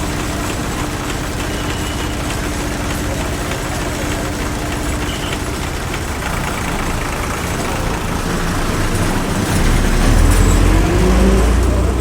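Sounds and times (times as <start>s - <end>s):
bus engine rumble: 0.0s - 12.0s
traffic noise: 0.0s - 12.0s.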